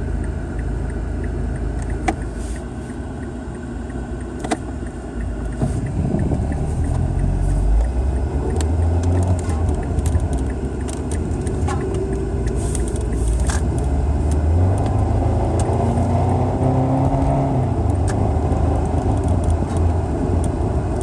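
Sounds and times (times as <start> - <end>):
deep exhaust rumble: 0.0 - 21.0.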